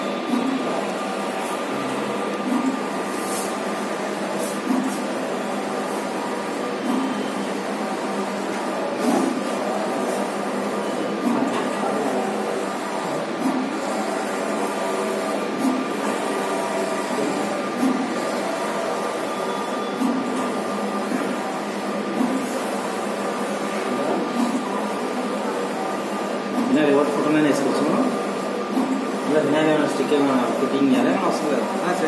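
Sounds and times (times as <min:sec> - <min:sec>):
printer carriage whirring: 0:00.0 - 0:32.0.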